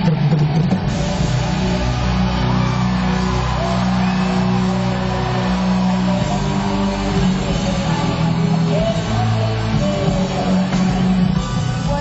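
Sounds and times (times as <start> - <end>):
loud live concert music: 0.0 - 12.0.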